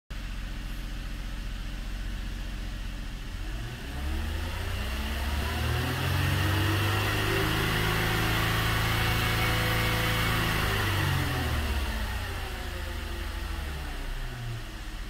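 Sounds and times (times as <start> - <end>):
car engine idling and revving: 0.1 - 15.0.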